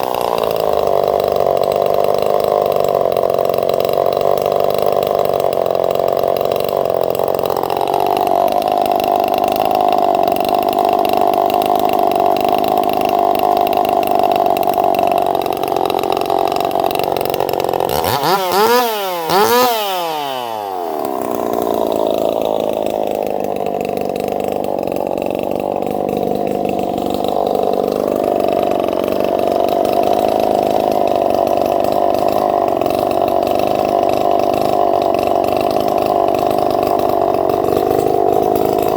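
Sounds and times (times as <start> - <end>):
two-stroke engine idling: 0.0 - 38.9.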